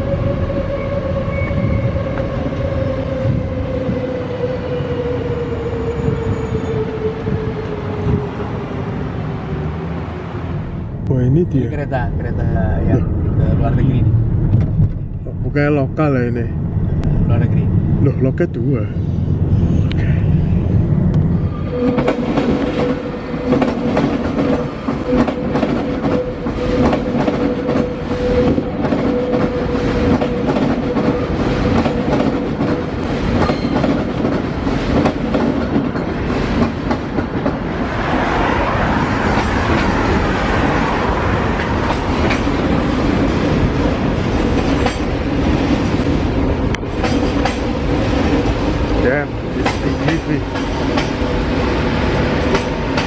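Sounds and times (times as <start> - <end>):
train passing rumble: 0.0 - 53.0.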